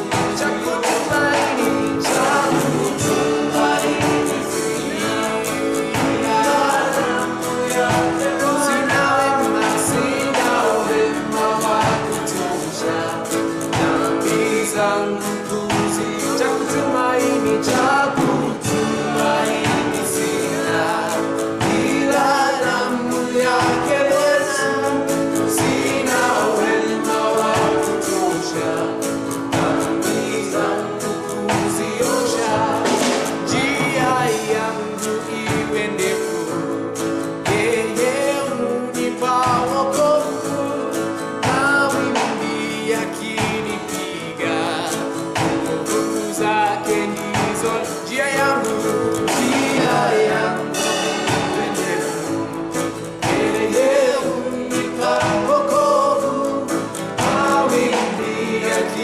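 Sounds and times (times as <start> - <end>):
band playing a steady beat: 0.0 - 59.0
voices singing gospel: 0.0 - 59.0.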